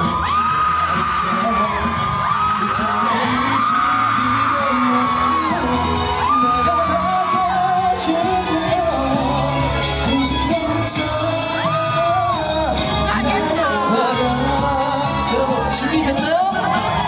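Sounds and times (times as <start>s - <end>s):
live pop song over sound system: 0.0s - 17.0s.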